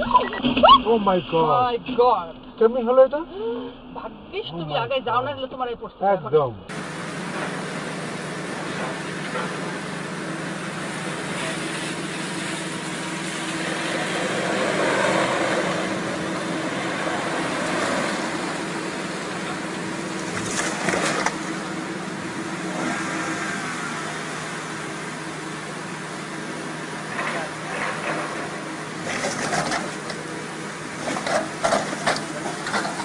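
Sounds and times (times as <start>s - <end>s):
car engine and road noise: 0.0s - 33.0s
low hum: 0.0s - 33.0s.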